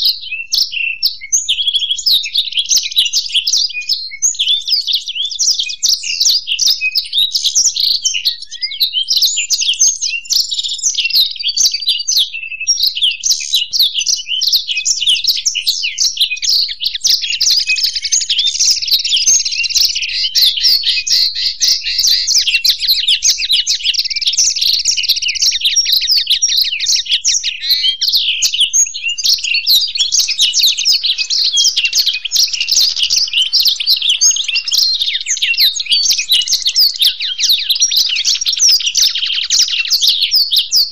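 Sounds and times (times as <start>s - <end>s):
birds twittering song: 0.0s - 40.9s.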